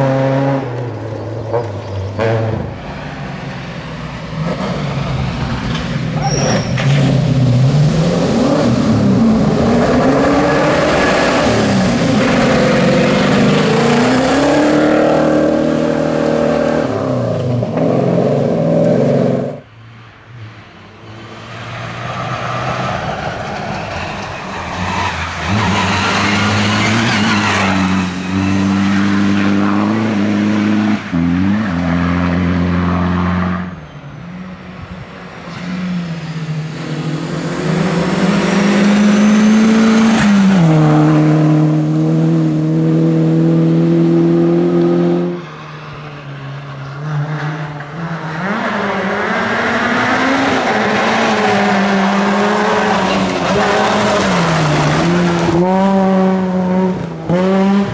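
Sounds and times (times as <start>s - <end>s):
rally car engines revving: 0.0s - 19.7s, 20.4s - 57.9s.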